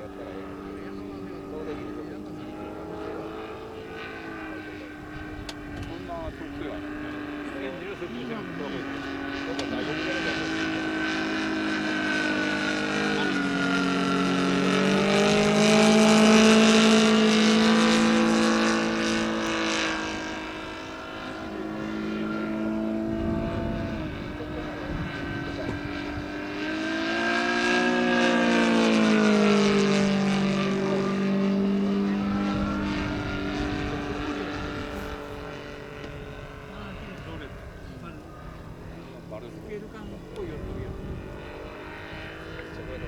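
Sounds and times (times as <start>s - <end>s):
model plane propeller drone: 0.0s - 43.0s.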